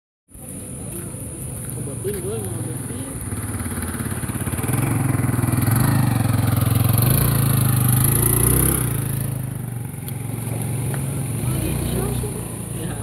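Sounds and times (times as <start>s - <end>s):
vehicle engine running: 0.4s - 13.0s.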